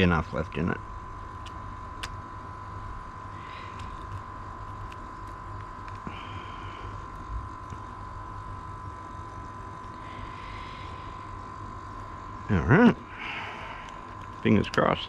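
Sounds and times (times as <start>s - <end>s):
toothbrush motor humming: 0.0s - 15.0s.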